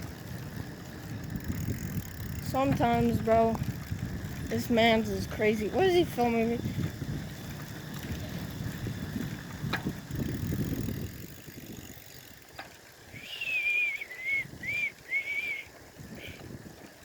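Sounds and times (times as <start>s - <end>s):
bicycle rumbling over bumpy road: 0.0s - 17.0s
wind buffeting microphone: 0.0s - 17.0s.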